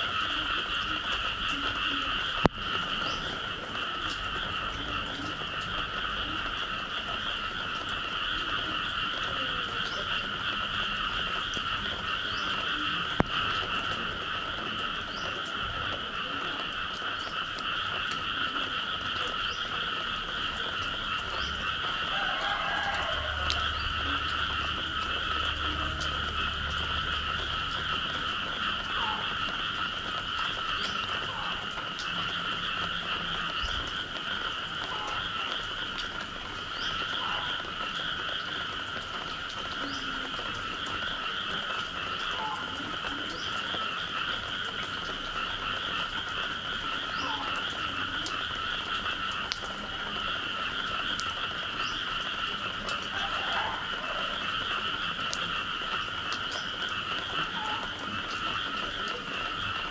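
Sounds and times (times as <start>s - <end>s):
chorus of frogs calling: 0.0s - 59.9s.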